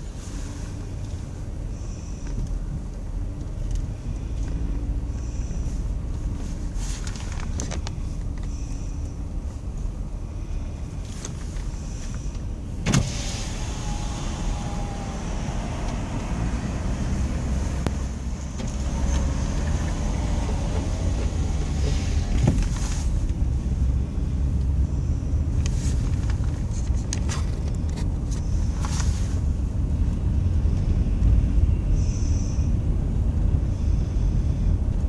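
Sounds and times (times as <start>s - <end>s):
road rumble inside vehicle: 0.0s - 35.0s.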